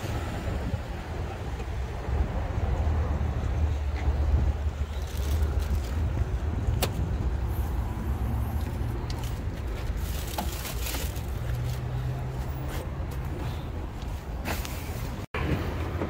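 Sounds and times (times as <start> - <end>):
low rumble of cars: 0.0 - 16.0.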